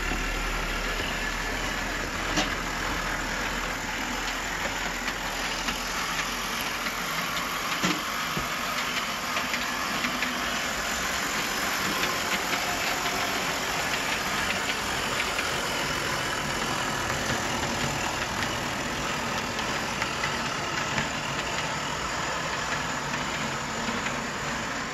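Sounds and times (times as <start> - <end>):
model train mechanical whir: 0.0 - 24.9
wheels ticking on rails: 0.0 - 24.9.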